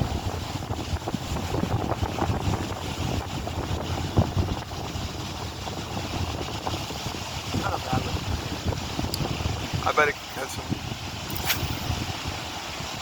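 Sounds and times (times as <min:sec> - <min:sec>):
wind buffeting the microphone: 0:00.0 - 0:13.0.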